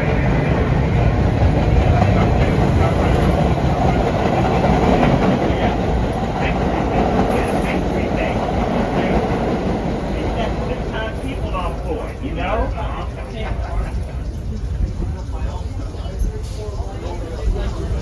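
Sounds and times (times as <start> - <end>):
subway car wheels rumbling on rail: 0.0 - 18.0.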